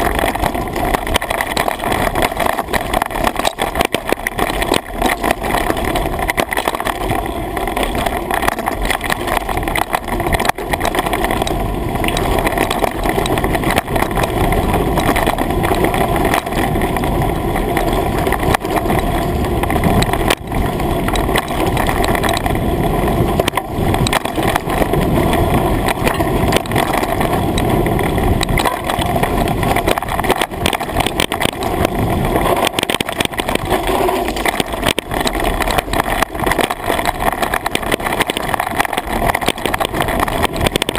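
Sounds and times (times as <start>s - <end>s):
bike rattling and knocking: 0.0s - 40.9s
wind rushing on microphone: 0.0s - 40.9s.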